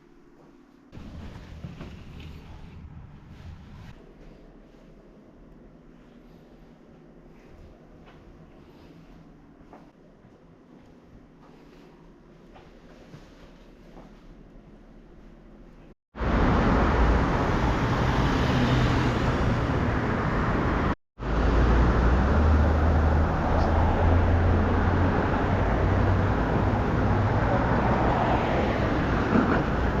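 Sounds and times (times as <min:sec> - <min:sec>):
vehicle noise with low hum: 0:00.8 - 0:30.0.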